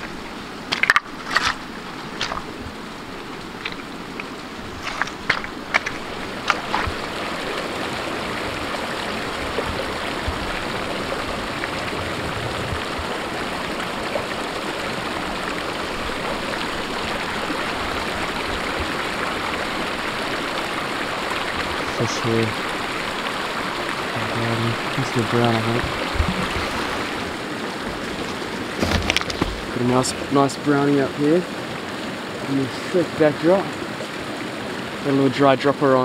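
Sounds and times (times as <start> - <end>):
river running over stones: 0.0 - 36.0.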